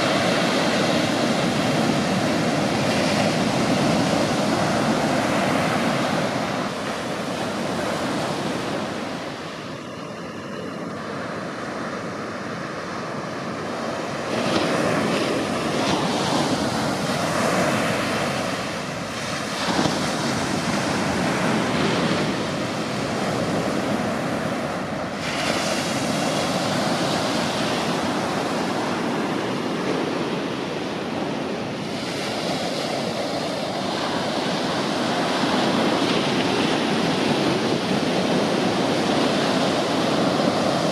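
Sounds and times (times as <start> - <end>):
small waves breaking on beach: 0.0 - 40.9.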